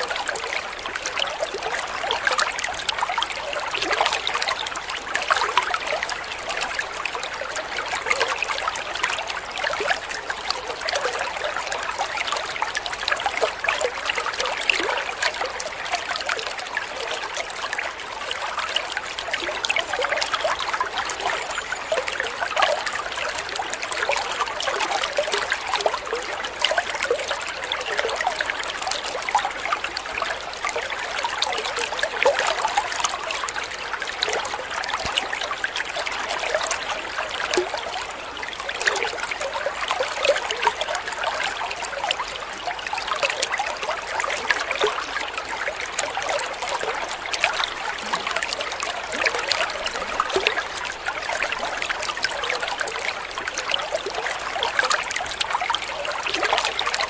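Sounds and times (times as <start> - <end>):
water trickling over stones: 0.0 - 57.0.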